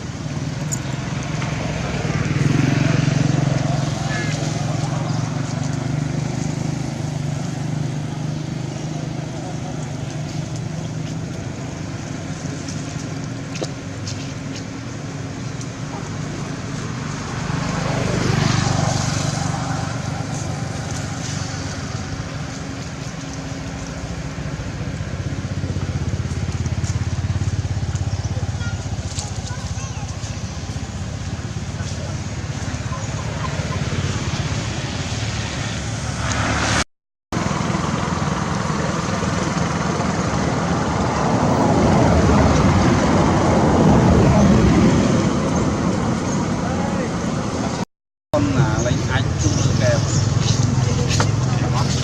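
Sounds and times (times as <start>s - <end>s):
vehicle passing by: 0.0s - 13.2s, 14.2s - 47.8s, 48.4s - 52.0s
vehicle engine running: 0.0s - 47.8s, 48.4s - 52.0s.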